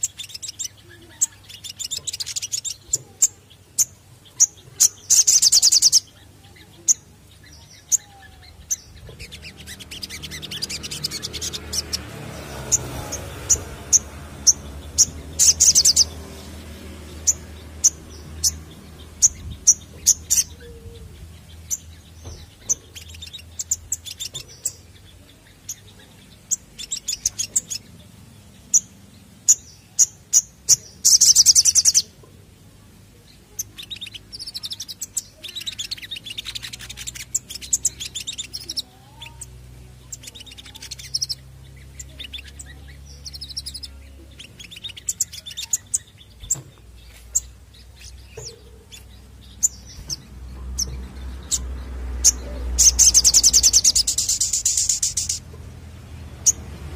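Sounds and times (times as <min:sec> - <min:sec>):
buzzy bird trill: 0:00.0 - 0:28.0, 0:33.5 - 0:55.5
bird twittering: 0:00.0 - 0:32.1, 0:33.4 - 0:55.5
bird singing high chirps: 0:00.0 - 0:32.2, 0:33.2 - 0:56.9.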